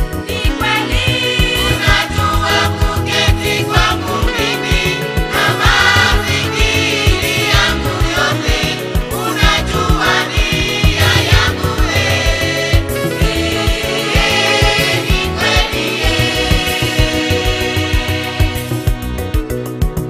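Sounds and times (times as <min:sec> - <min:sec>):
choir singing gospel: 0:00.0 - 0:19.1
instrumental backing with beat: 0:00.0 - 0:20.0.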